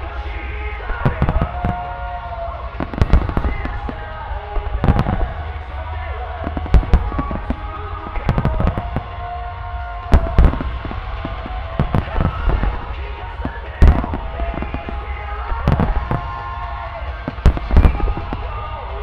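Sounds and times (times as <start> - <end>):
continuous rumble: 0.0 - 19.0
firework shells booming: 0.6 - 18.8.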